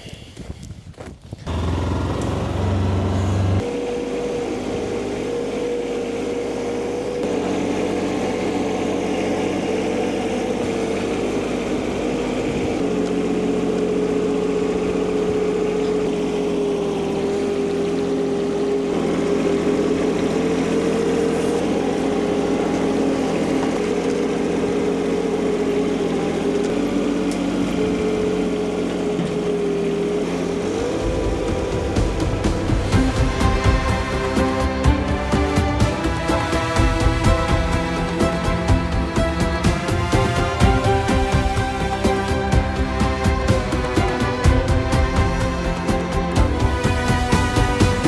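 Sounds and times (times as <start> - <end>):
engine running: 1.4 - 48.0.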